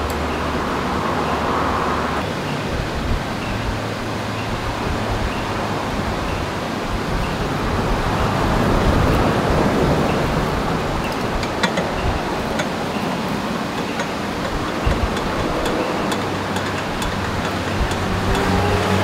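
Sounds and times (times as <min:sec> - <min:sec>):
electric fan blowing air: 0:00.0 - 0:19.0.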